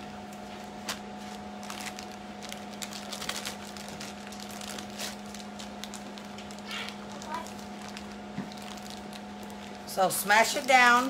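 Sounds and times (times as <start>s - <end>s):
plastic bags rustling and crinkling: 0.3s - 11.0s.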